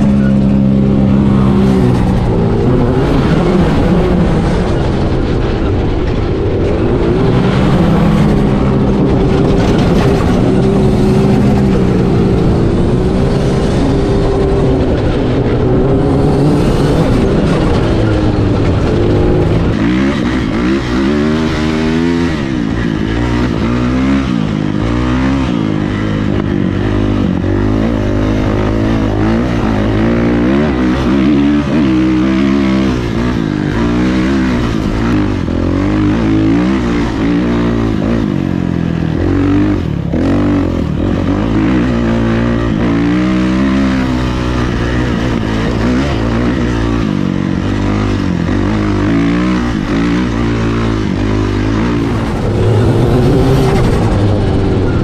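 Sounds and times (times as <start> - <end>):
buggy engine running at speed: 0.0 - 55.0
dirt bike engine revving: 0.0 - 55.0.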